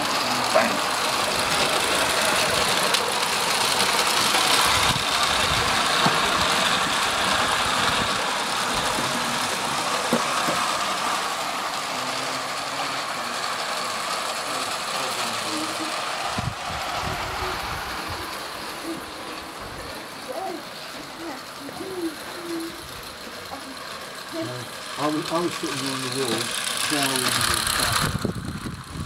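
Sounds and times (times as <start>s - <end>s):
model steam locomotive hissing: 0.0s - 29.0s.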